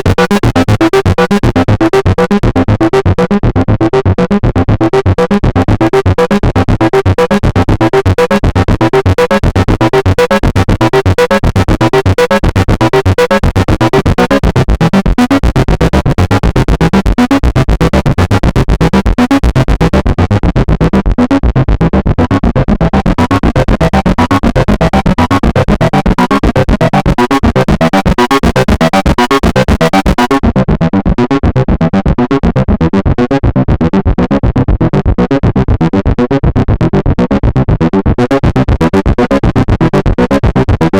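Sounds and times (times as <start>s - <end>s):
synthesizer pulsing notes: 0.0s - 40.9s.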